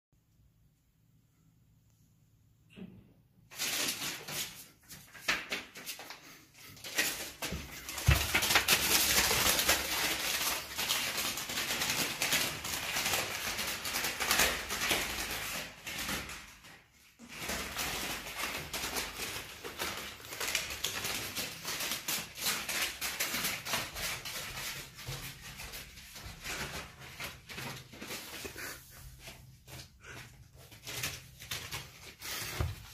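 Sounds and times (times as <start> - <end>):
adhesive paper crackling: 3.5 - 32.9.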